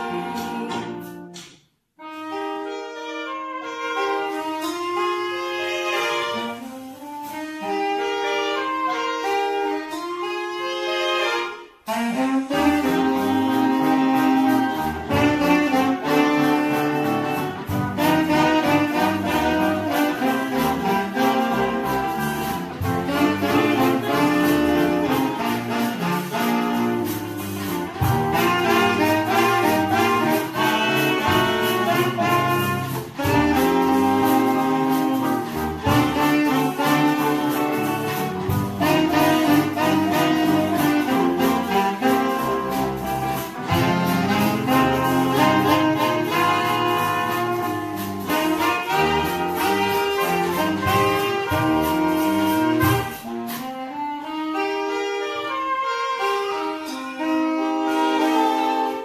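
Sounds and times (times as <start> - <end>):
saxophone quartet playing jazz: 0.0 - 59.0.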